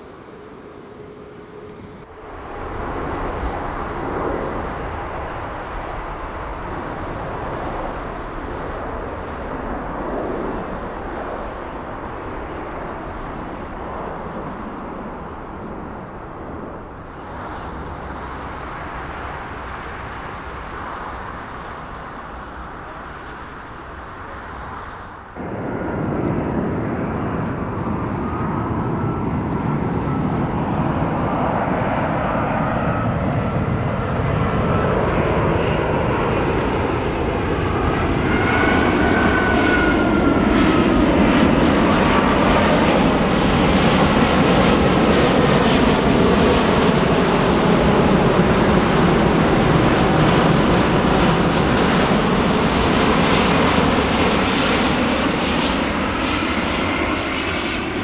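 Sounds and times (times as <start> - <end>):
jet engine rush: 0.0 - 58.0.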